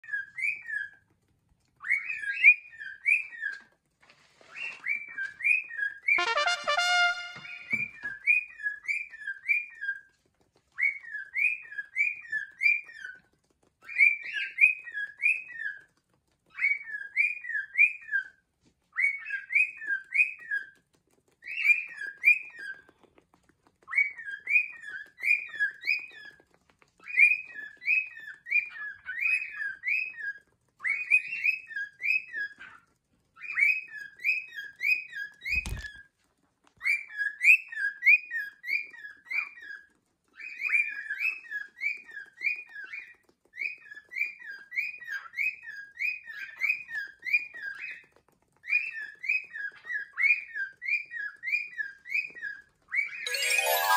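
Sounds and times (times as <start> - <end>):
cockatiels chirping: 0.0 - 1.2, 1.8 - 3.7, 10.8 - 20.8, 21.4 - 23.0, 23.9 - 36.0, 36.8 - 53.2.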